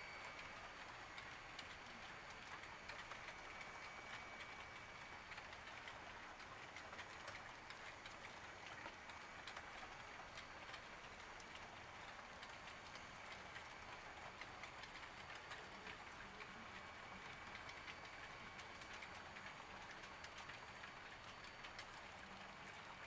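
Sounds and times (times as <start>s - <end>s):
wheels clicking on track: 0.6s - 23.0s.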